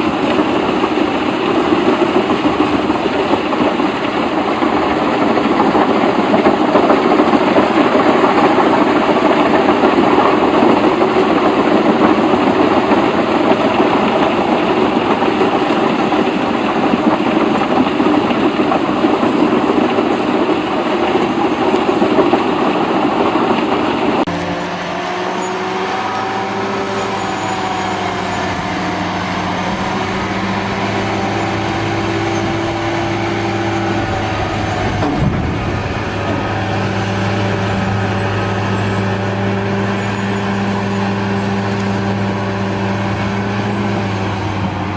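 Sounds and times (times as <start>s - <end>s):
engine humming steadily: 0.0s - 44.9s
heavy machine engine clattering: 0.0s - 44.9s.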